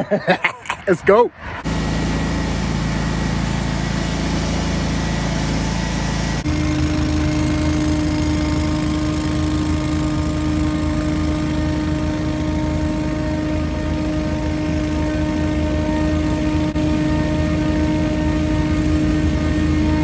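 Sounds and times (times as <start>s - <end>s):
leaf blower running: 1.6s - 20.0s.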